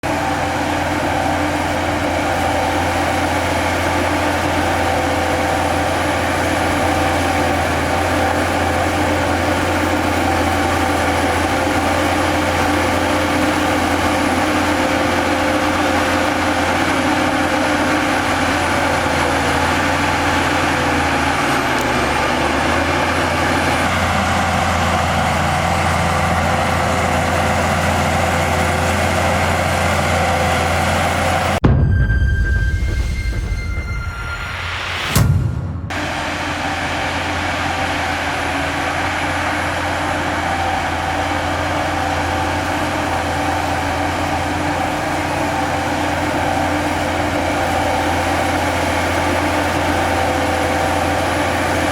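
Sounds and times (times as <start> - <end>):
heavy machinery engine droning: 0.0 - 51.9.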